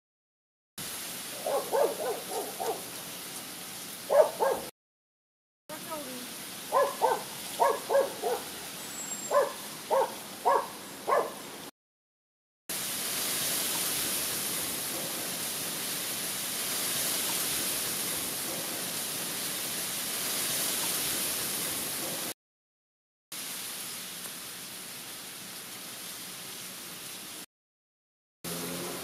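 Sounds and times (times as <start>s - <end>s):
steady outdoor hiss: 0.8s - 4.7s, 5.7s - 11.7s, 12.7s - 22.3s, 23.4s - 27.4s, 28.5s - 29.0s.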